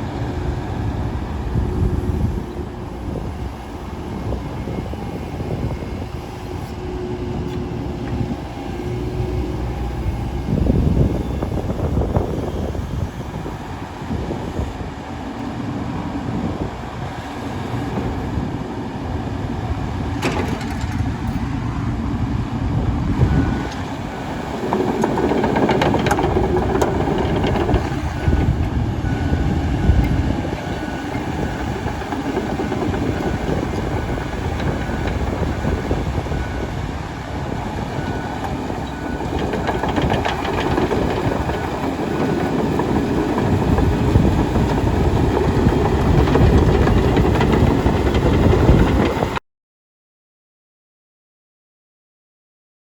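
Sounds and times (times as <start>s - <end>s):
excavator diesel engine rumbling: 0.0s - 49.4s.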